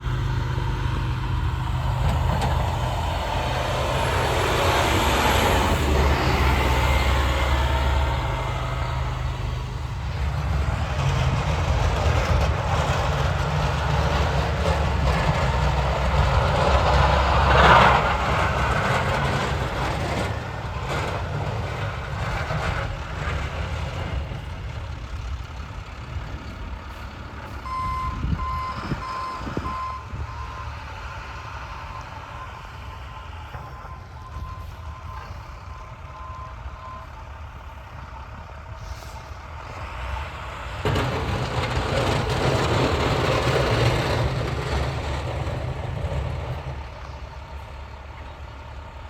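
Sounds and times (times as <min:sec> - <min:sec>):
truck engine rumbling: 0:00.0 - 0:49.0.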